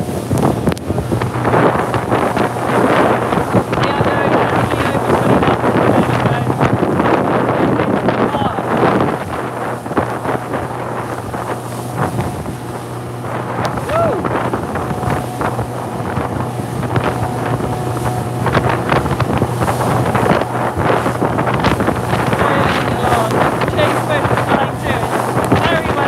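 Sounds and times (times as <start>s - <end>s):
motorboat engine hum: 0.0s - 26.0s
water splashing against hull: 0.0s - 26.0s
wind buffeting microphone: 0.0s - 26.0s.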